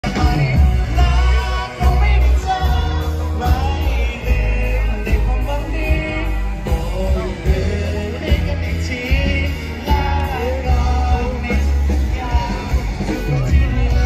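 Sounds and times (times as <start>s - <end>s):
heavy bass line: 0.0s - 14.0s
person singing: 0.0s - 14.0s.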